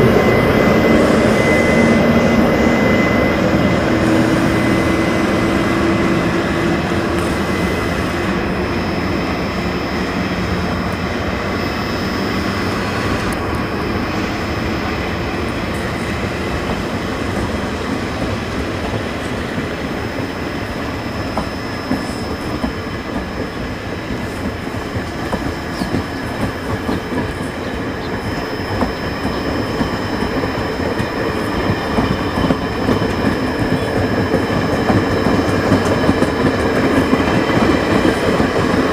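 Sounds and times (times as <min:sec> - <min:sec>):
high-pitched squeal: 0:00.0 - 0:38.9
train wheels rumbling on rail: 0:00.0 - 0:38.9.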